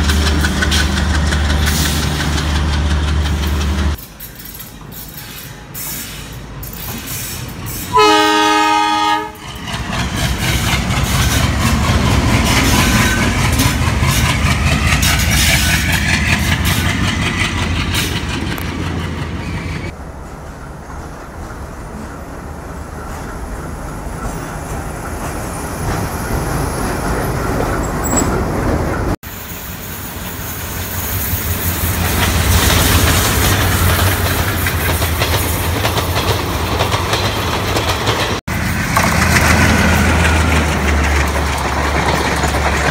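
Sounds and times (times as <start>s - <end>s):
wheels clattering over rail joints: 0.0s - 5.6s, 9.4s - 29.2s, 31.8s - 42.9s
diesel locomotive engine rumbling: 0.0s - 42.9s.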